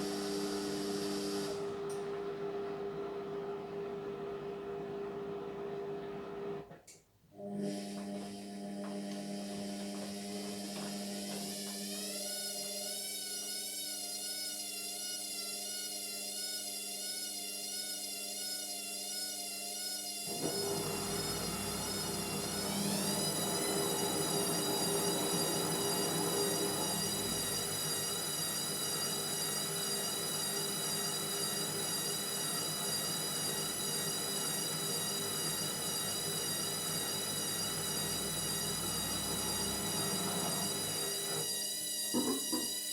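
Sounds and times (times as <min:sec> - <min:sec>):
washing machine motor whine: 0:00.0 - 0:06.8, 0:07.4 - 0:42.9.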